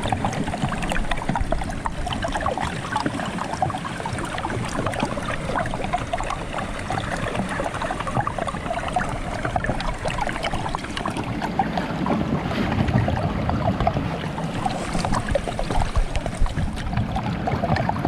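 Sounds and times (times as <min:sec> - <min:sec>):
low water rumble: 0:00.0 - 0:18.0
stream gurgling under ice: 0:00.0 - 0:18.0.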